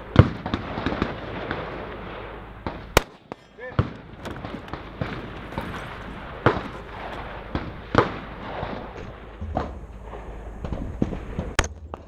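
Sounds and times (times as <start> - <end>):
rifle shots: 0.0 - 11.6.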